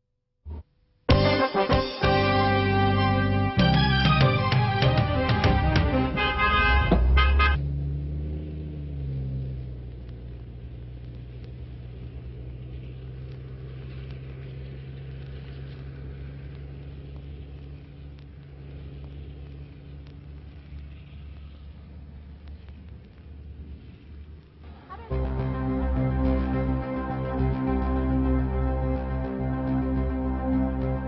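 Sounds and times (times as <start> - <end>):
bus diesel engine drone: 0.5 - 31.0.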